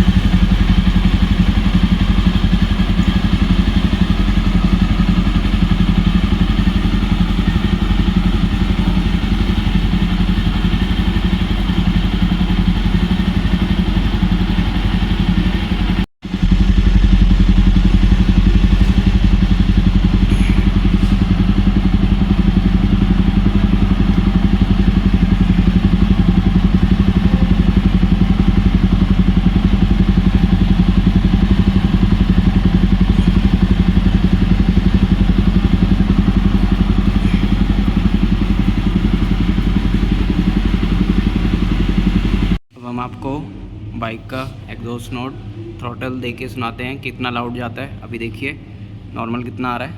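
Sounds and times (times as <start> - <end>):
motorcycle engine idling: 0.0 - 42.6.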